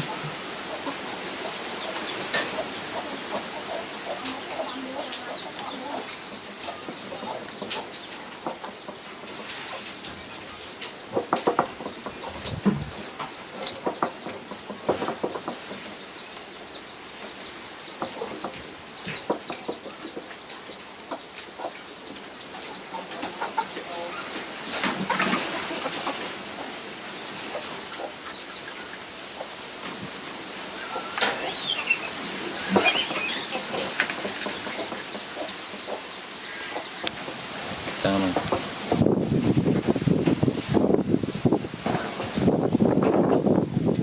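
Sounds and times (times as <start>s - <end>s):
animal chirps and clucking: 0.0s - 29.6s, 30.7s - 37.2s.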